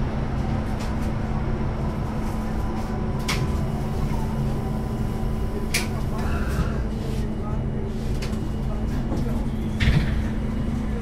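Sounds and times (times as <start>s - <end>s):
light-rail car rumble: 0.0s - 11.0s.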